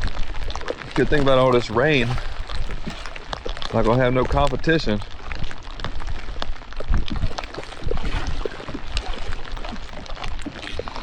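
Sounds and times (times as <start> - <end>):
rain drops on kayak and water: 0.0 - 11.0
wind rumbling on microphone: 0.0 - 11.0.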